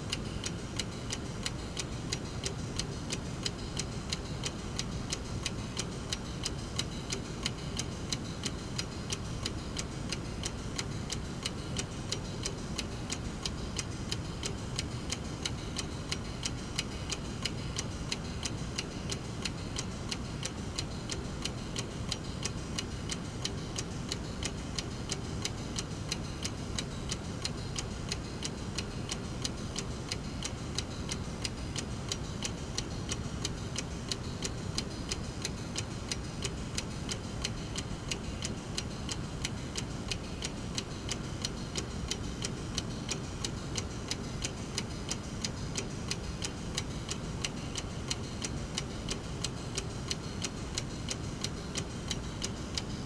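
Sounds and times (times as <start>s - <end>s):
clock ticking: 0.0s - 53.0s.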